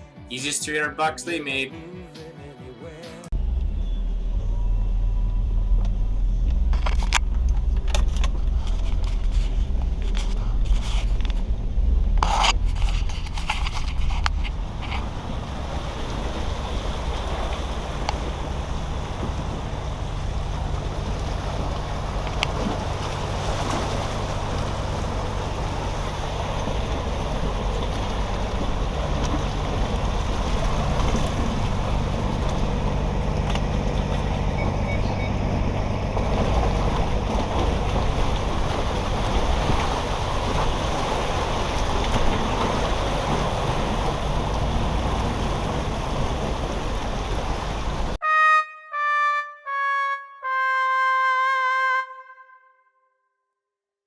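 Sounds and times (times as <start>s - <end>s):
diesel truck engine running: 3.3s - 48.2s
road and wind noise: 3.4s - 48.2s.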